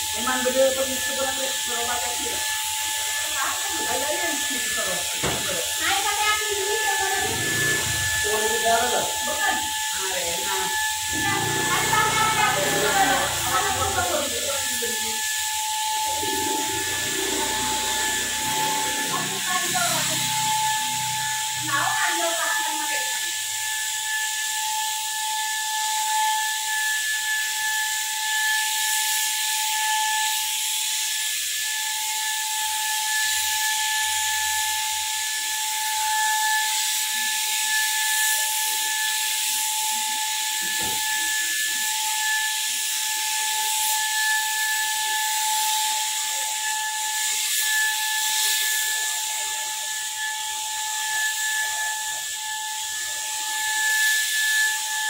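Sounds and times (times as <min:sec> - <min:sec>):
air and paint hissing: 0:00.0 - 0:55.0
spray gun motor whine: 0:00.0 - 0:55.0.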